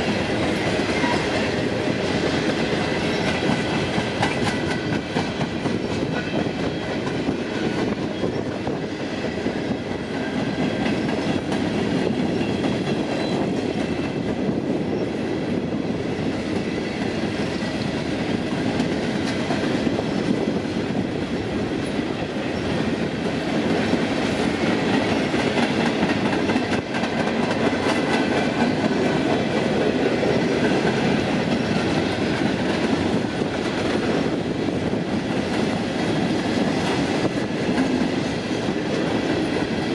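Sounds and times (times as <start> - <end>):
clickety-clack over rail joints: 0.0 - 39.9
train wheels rumbling on rails: 0.0 - 39.9.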